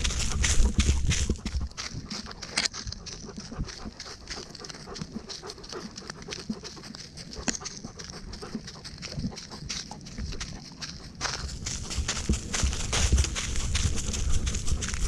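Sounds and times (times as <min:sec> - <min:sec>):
dog footsteps clicking: 0:00.0 - 0:15.0
dog panting: 0:00.0 - 0:15.0.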